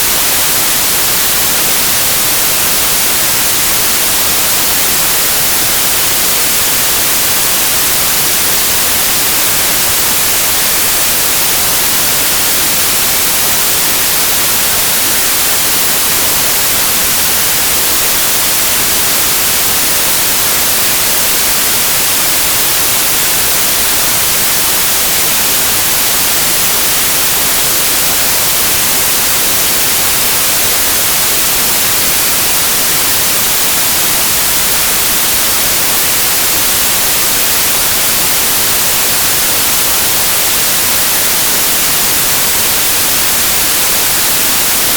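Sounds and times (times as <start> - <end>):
loud white noise hiss: 0.0 - 44.9.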